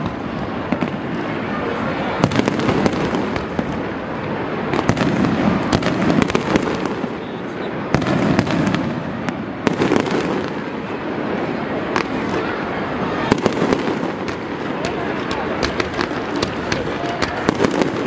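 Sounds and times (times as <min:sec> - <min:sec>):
dense fireworks crackle: 0:00.0 - 0:18.0.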